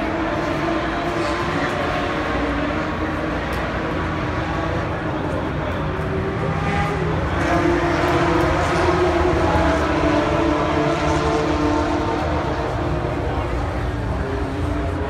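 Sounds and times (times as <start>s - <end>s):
crowd chatter: 0.0s - 15.0s.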